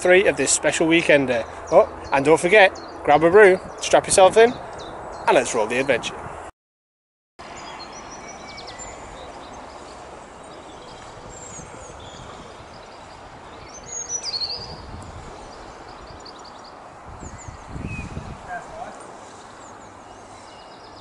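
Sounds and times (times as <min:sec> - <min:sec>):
small birds chirping: 0:00.0 - 0:06.0, 0:07.5 - 0:21.0.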